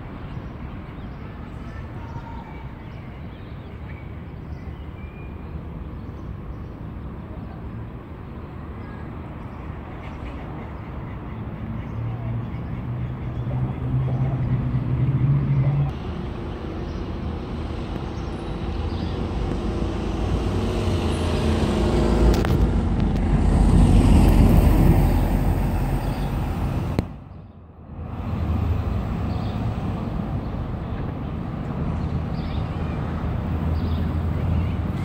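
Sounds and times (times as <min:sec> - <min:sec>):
city road traffic rumble: 0:00.0 - 0:35.0.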